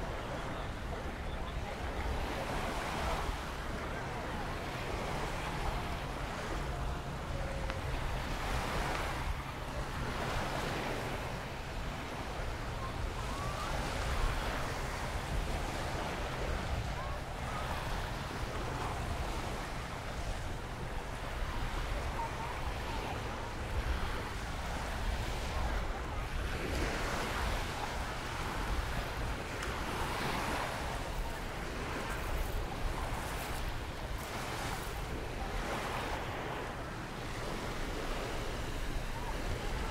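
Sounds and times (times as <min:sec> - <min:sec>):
surf washing on sandy beach: 0:00.0 - 0:39.9
wind rumbling on microphone: 0:00.0 - 0:39.9.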